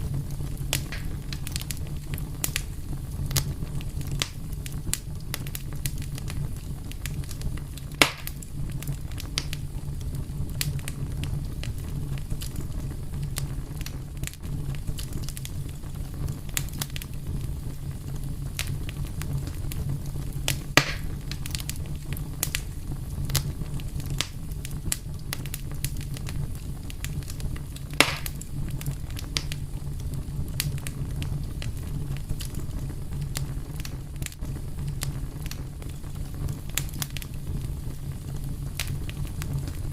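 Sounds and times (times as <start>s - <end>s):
fire popping: 0.0s - 39.9s
low rumble of burning: 0.0s - 39.9s
wood fire crackling: 0.0s - 39.9s.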